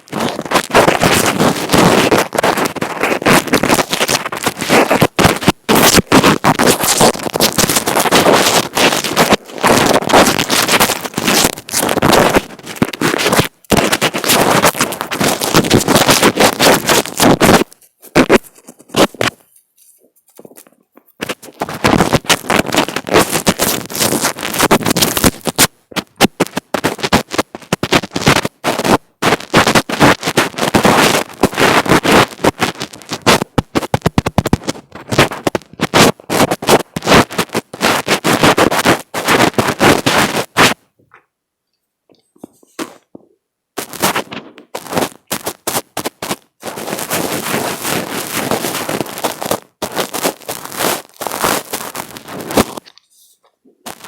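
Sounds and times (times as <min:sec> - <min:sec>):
fingers rubbing on microphone: 0:00.0 - 0:41.3, 0:42.1 - 0:54.0.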